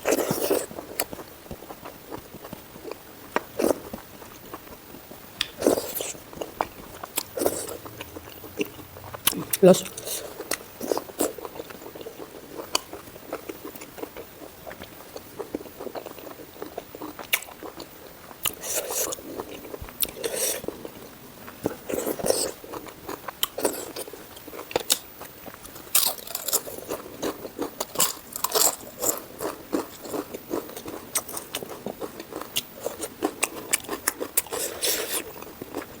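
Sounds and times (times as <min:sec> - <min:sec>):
person chewing crunchy food: 0:00.0 - 0:36.0.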